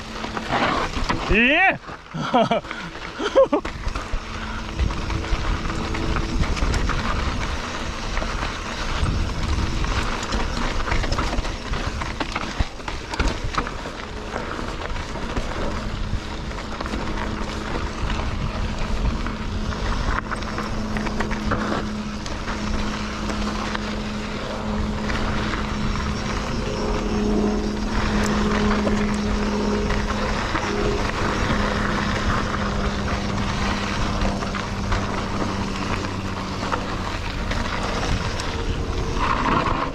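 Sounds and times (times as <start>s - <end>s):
bike tyres rumbling on dirt: 0.0s - 39.9s
steady low hum: 2.0s - 39.9s
wind on microphone: 3.8s - 39.9s
bike knocks and rattles: 4.8s - 39.9s.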